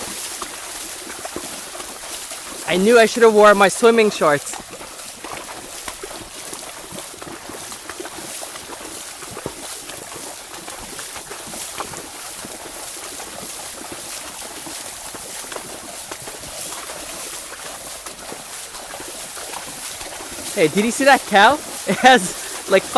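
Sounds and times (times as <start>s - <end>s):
horses splashing through water: 0.0s - 22.9s.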